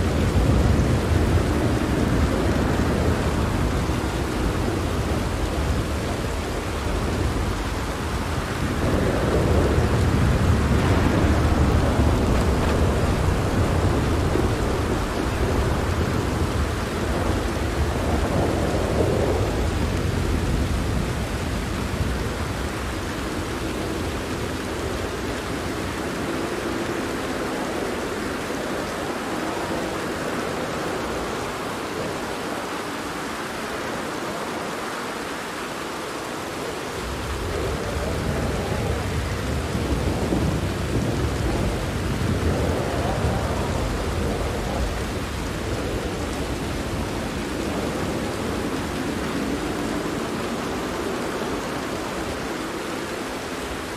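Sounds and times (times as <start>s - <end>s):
rolling thunder: 0.0s - 33.3s, 36.6s - 53.9s
rain pattering on a tent: 0.0s - 53.9s.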